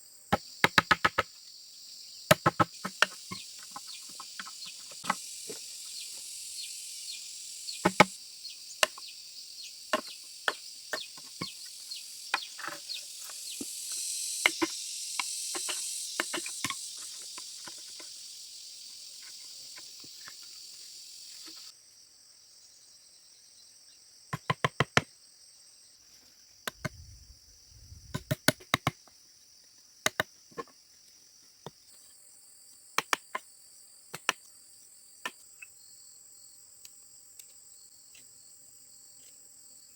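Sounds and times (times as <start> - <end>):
forest insects buzzing: 0.0 - 39.9.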